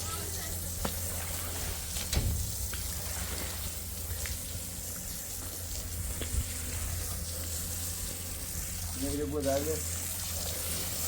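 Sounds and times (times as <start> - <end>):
water running: 0.0 - 11.0.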